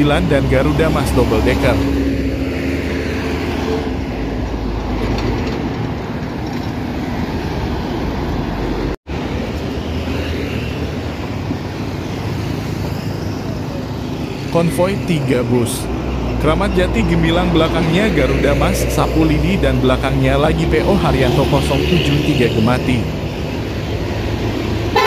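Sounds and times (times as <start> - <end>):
coach diesel engine passing: 0.0 - 25.0
road traffic noise: 0.0 - 25.0.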